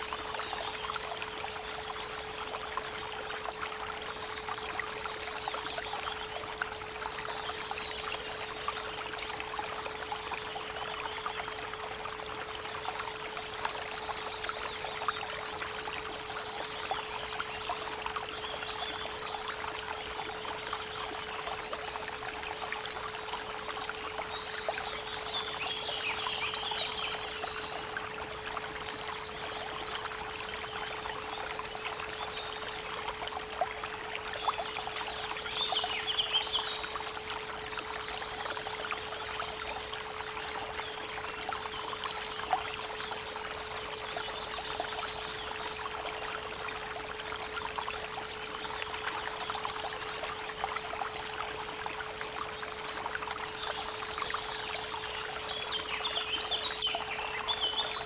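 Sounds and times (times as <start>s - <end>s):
birds singing: 0.0s - 33.0s, 33.7s - 46.4s, 48.2s - 58.0s
creek water running: 0.0s - 58.0s.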